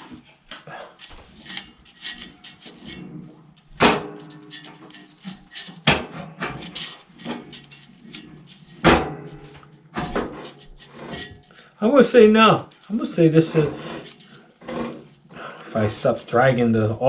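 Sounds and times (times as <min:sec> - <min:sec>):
auger clicking and scraping: 0:00.0 - 0:11.6, 0:12.7 - 0:16.8.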